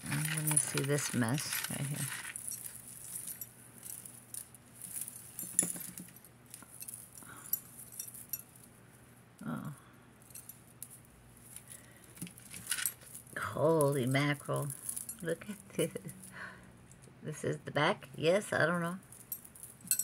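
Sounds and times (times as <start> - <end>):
jewelry clinking and jingling: 0.0 - 17.2, 18.8 - 20.0.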